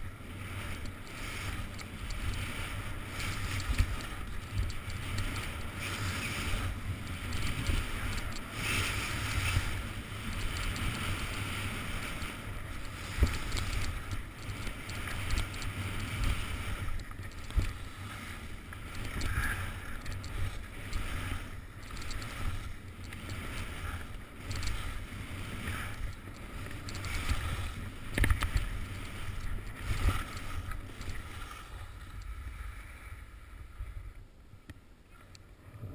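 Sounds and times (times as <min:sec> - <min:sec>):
skis scraping through snow: 0:00.0 - 0:34.1
wind rumbling on microphone: 0:00.0 - 0:35.9.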